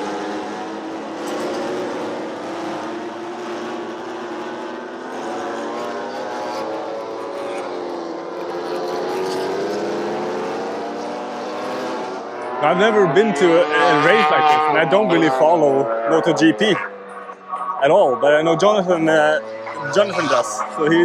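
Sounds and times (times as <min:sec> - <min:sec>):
racing motorcycles at high revs: 0:00.0 - 0:21.0.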